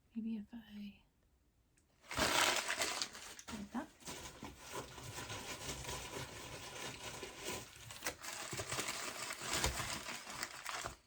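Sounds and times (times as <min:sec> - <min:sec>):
packing material rustling: 0:02.0 - 0:11.0.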